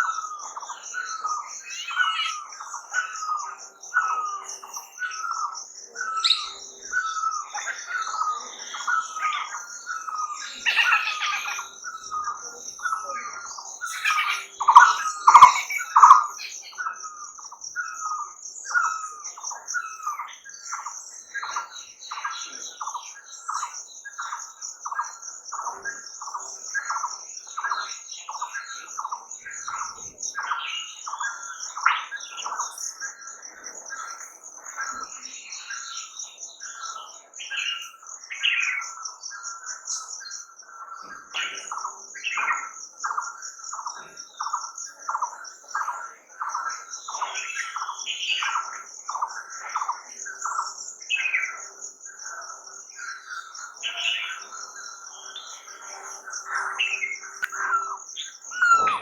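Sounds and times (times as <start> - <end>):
flurry of bird chirps: 0.0 - 59.0
pulsing insect trill: 0.0 - 59.0.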